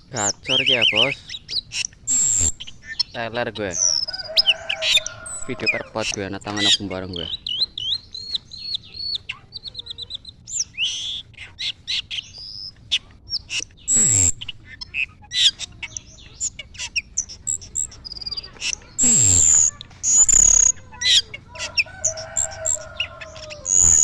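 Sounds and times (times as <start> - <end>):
loud harsh bird call: 0.0 - 24.0
bird whistles and trills: 0.1 - 5.5, 6.1 - 24.0.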